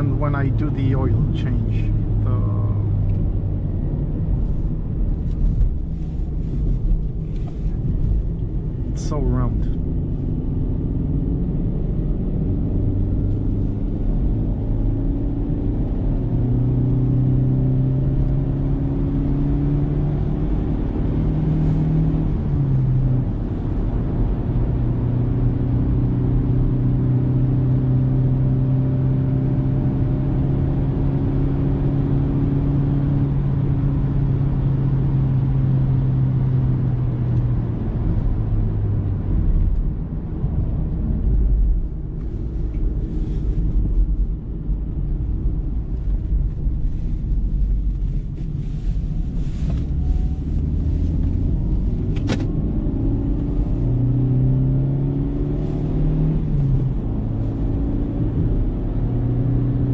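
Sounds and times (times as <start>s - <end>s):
car engine droning: 0.0s - 59.9s
road rumble: 0.0s - 59.9s.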